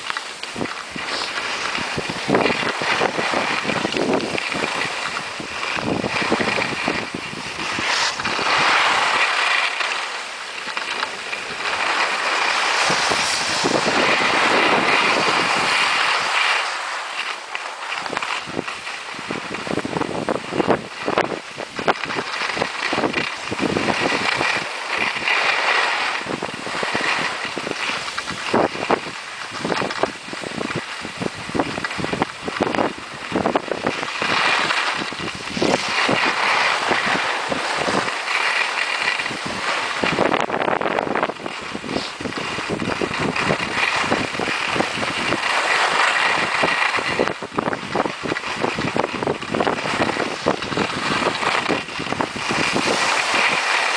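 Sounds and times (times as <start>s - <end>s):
skis scraping icy snow: 0.0s - 53.9s
wind on microphone: 0.0s - 53.9s.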